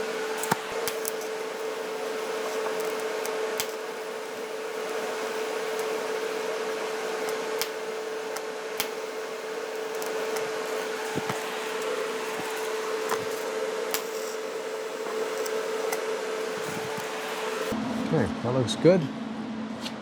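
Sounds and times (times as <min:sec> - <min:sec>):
welding arc buzzing hiss: 0:00.0 - 0:17.8.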